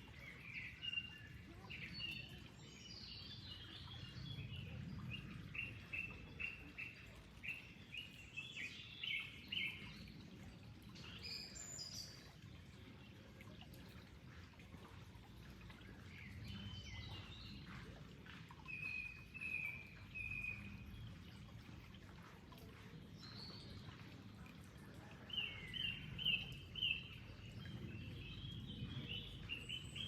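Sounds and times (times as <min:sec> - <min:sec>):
flowing water: 0:00.0 - 0:30.0.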